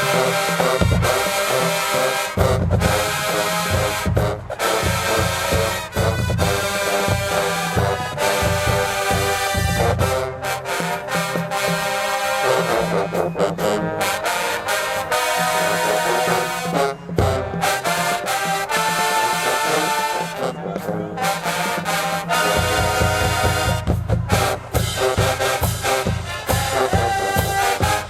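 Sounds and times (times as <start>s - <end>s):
heavy drum beats: 0.0s - 13.7s, 15.2s - 28.0s
brass chords: 0.0s - 28.0s.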